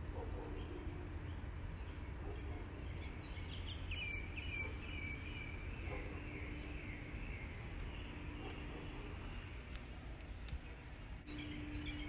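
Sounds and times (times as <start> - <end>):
bird chirping and trilling: 0.6 - 9.6, 10.6 - 12.0.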